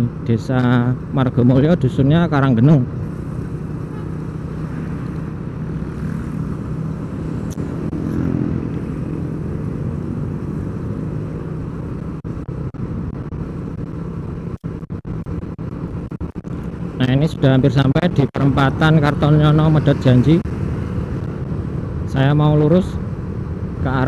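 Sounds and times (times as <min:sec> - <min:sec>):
road and wind noise: 0:00.0 - 0:24.0
vehicle engine humming: 0:00.0 - 0:24.0.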